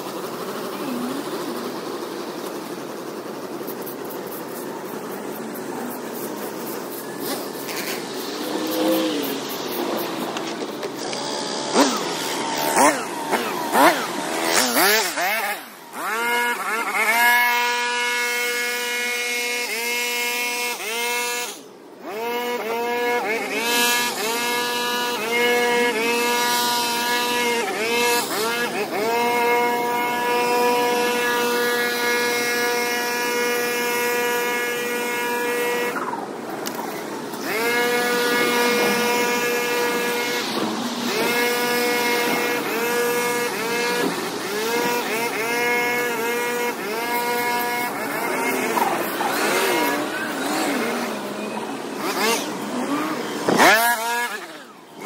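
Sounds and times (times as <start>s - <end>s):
small gas engine revving: 0.0s - 55.0s.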